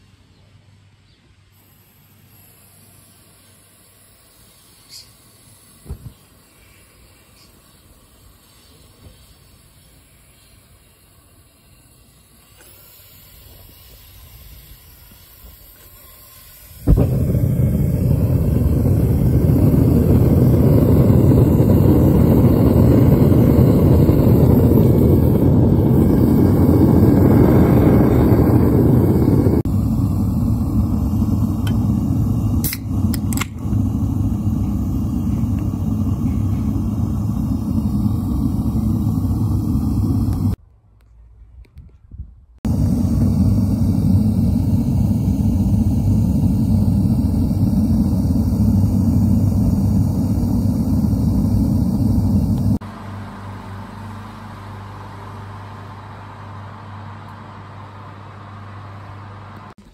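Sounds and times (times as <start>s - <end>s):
propane burner roaring: 1.6s - 8.3s, 9.5s - 40.6s, 42.6s - 59.8s.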